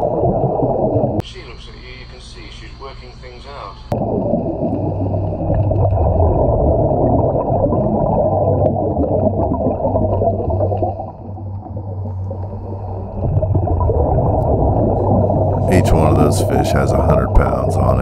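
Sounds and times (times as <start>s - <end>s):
muffled underwater water rush: 0.0s - 1.2s, 3.9s - 18.0s
steady low hum: 0.0s - 18.0s.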